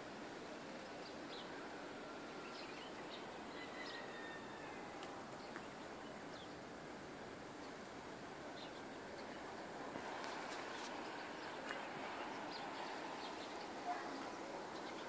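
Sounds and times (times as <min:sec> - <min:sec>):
steady background hiss: 0:00.0 - 0:15.0
small birds chirping: 0:00.8 - 0:15.0.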